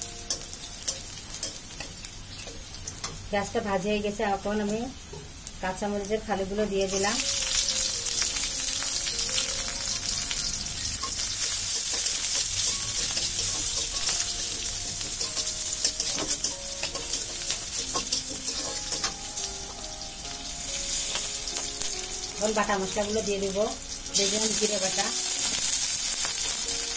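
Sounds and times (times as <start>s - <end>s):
onions sizzling in hot oil: 0.0s - 26.9s.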